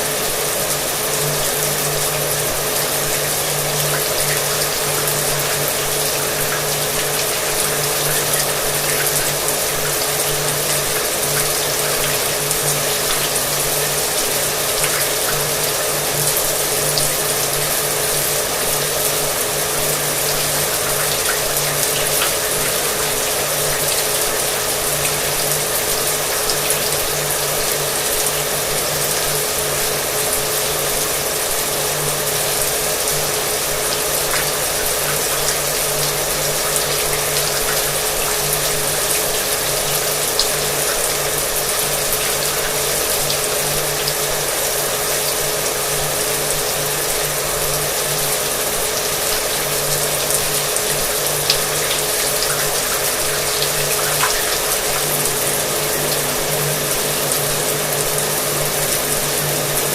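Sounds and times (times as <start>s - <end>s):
shower water running: 0.0s - 59.9s.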